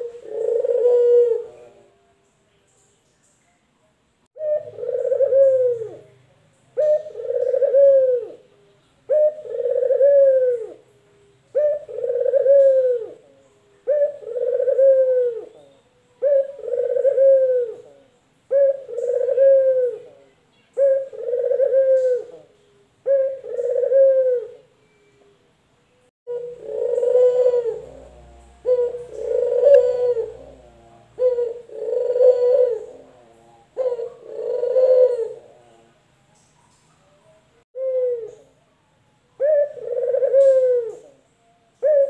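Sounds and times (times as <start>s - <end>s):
dove cooing: 0.0s - 1.9s, 4.4s - 6.2s, 6.8s - 25.1s, 26.3s - 35.9s, 37.8s - 38.6s, 39.4s - 42.0s.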